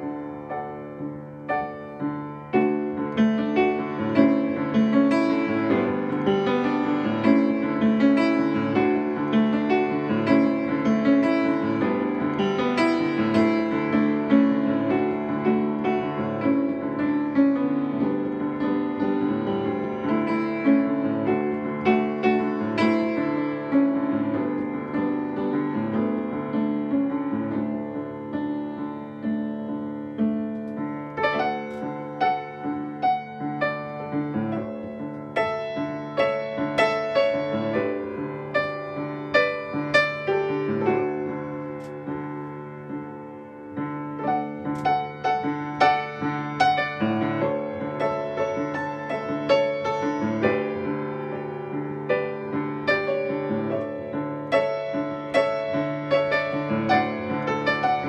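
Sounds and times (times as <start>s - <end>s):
solo upright piano: 0.0s - 58.0s.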